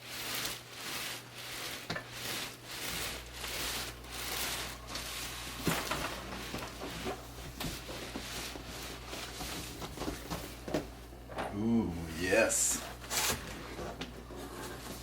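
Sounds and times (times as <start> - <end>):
cardboard scraping: 0.0 - 10.8, 12.8 - 15.0.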